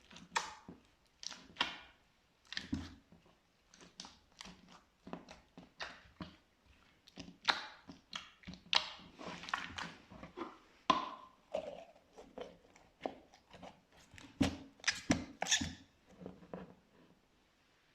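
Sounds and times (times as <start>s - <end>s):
slime squelching and popping: 0.0s - 10.3s, 10.9s - 15.7s.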